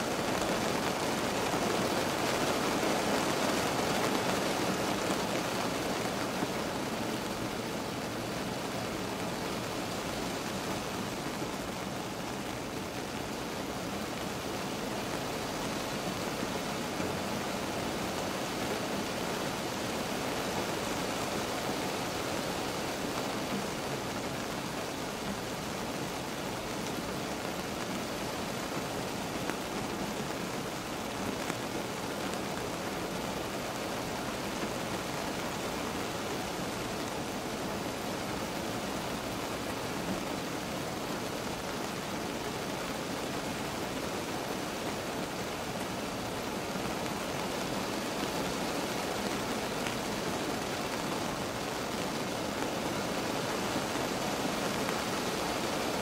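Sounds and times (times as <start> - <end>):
rain heard from inside a car: 0.0 - 56.0.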